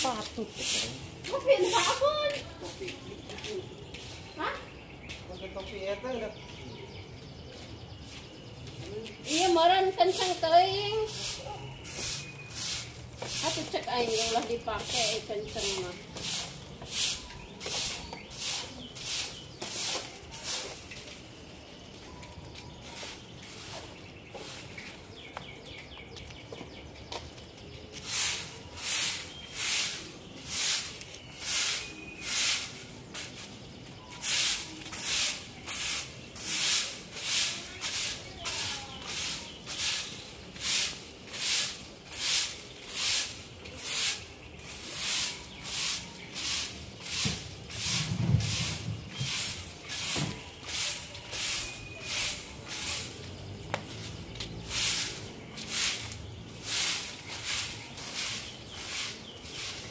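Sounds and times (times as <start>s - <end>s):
broom sweeping paving: 0.0s - 5.8s, 7.4s - 59.9s.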